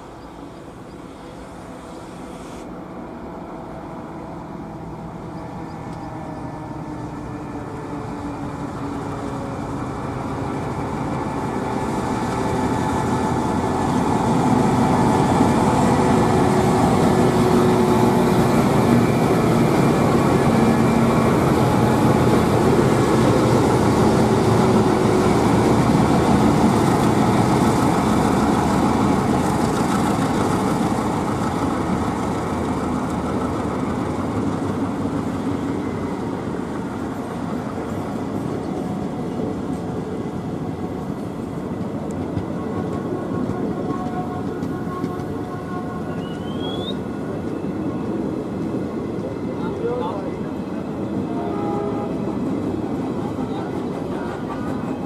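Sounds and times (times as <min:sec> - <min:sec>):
diesel locomotives running hard: 0:00.0 - 0:55.0.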